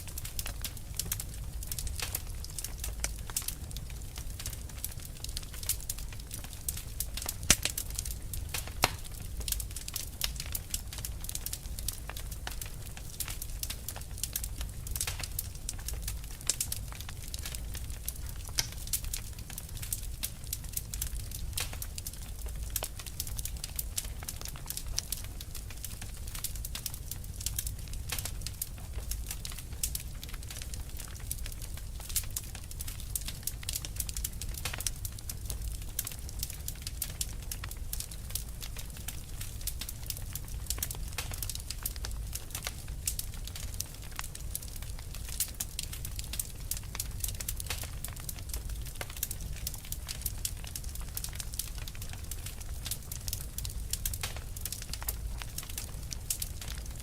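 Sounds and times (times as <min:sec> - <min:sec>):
fire crackling and popping: 0:00.0 - 0:57.0
low rumble of flame: 0:00.0 - 0:57.0.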